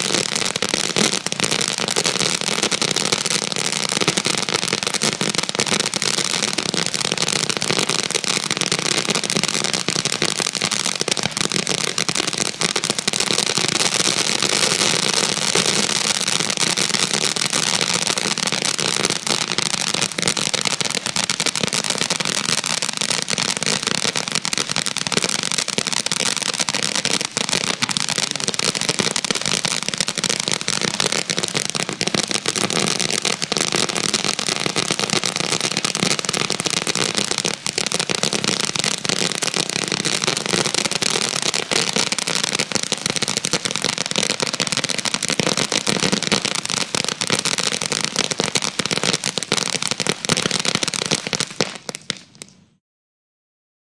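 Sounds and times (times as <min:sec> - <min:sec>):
firecracker barrage crackling: 0:00.0 - 0:52.8.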